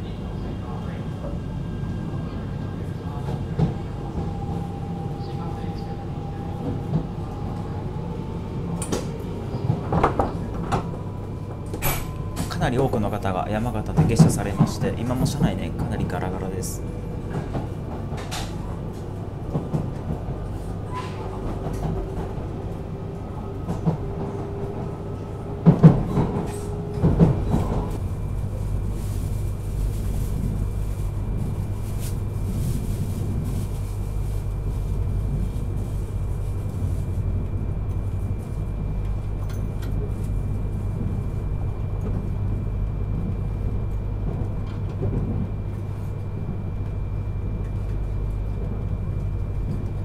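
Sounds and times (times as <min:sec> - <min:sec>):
train rumble inside carriage: 0:00.0 - 0:50.0
held hum: 0:03.3 - 0:50.0.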